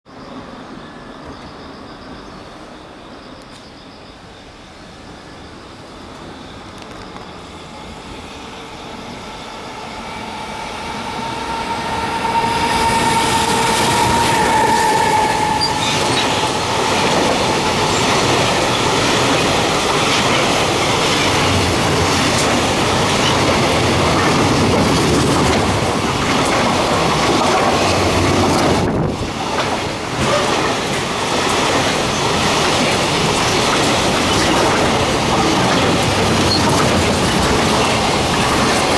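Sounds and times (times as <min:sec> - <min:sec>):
freight train rumble and wheel clatter: 0:00.1 - 0:38.9
locomotive whine: 0:00.1 - 0:38.9.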